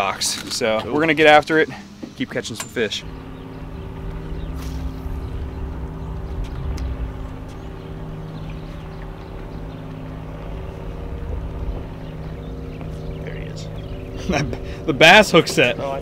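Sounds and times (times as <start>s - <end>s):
boat motor running: 2.6s - 16.0s.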